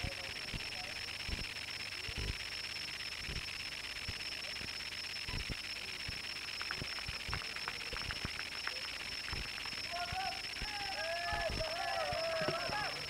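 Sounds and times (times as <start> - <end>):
camcorder hiss and whine: 0.0 - 13.0.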